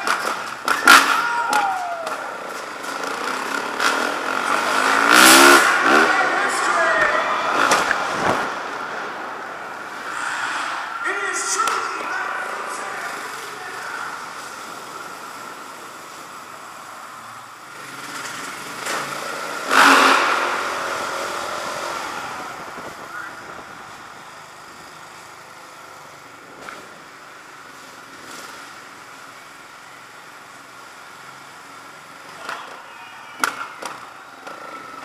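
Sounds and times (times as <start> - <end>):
dirt bikes revving: 0.0 - 32.8.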